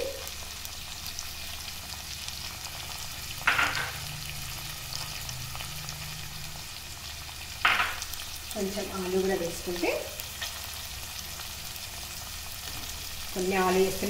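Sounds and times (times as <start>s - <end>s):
vegetables sizzling in a pot: 0.0s - 14.0s.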